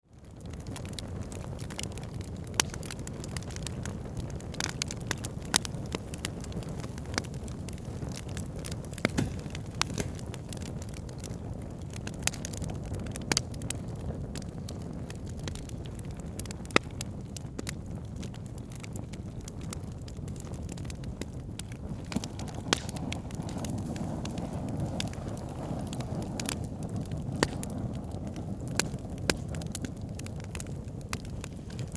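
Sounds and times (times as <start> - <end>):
fire crackling and popping: 0.0 - 31.9.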